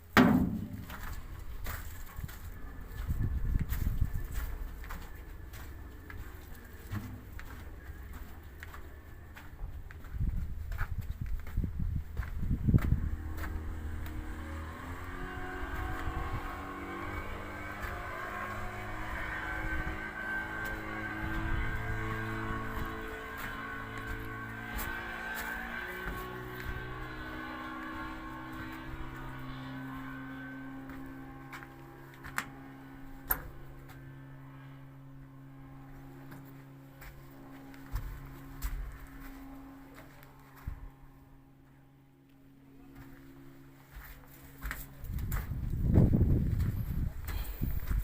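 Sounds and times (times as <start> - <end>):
engine droning: 0.0 - 48.0
low hum of held tones: 0.0 - 48.0.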